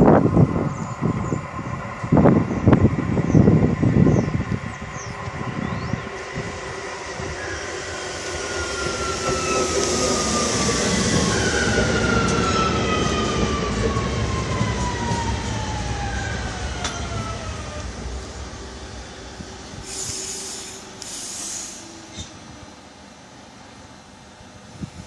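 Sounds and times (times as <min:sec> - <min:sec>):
train motor whine: 0:00.0 - 0:25.0
train rolling noise: 0:00.0 - 0:25.0.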